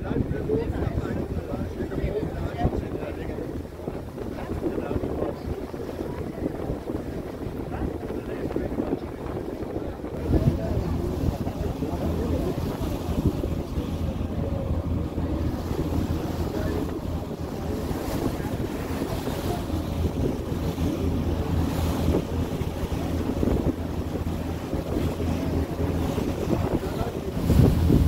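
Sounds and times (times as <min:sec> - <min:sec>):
ferry engine humming: 0:00.0 - 0:28.0
wind buffeting microphone: 0:00.0 - 0:28.0.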